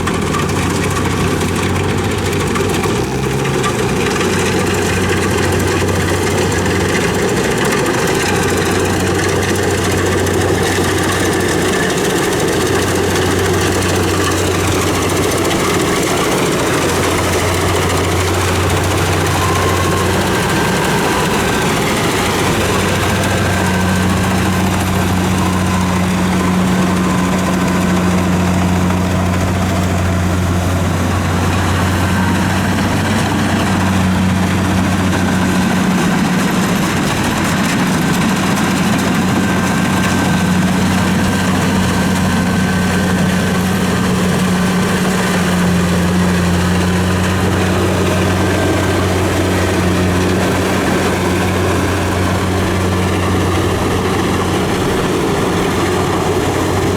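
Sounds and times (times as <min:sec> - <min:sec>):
diesel engine droning: 0:00.0 - 0:56.9.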